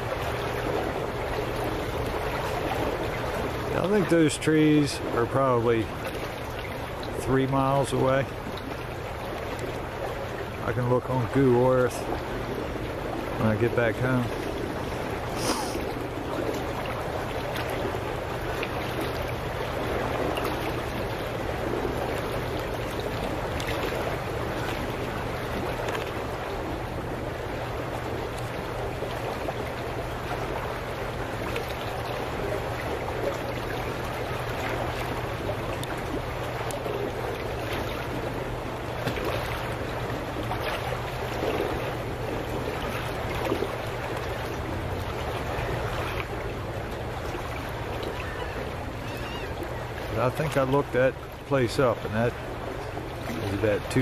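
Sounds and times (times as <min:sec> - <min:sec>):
water churning and gurgling: 0:00.0 - 0:54.0.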